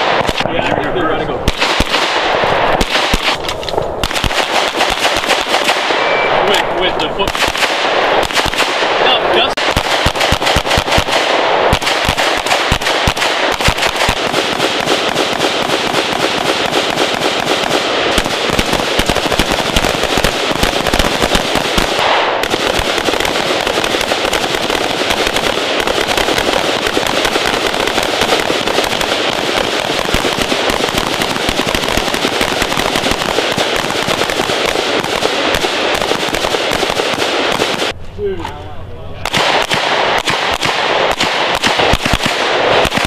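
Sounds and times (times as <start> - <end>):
rapid gunfire: 0.0 - 0.8, 1.4 - 38.0, 39.2 - 43.0.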